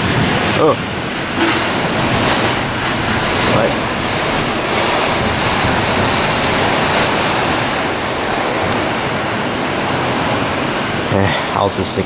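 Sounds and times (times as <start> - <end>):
heavy rain: 0.0 - 12.0
storm wind rushing: 0.0 - 12.0.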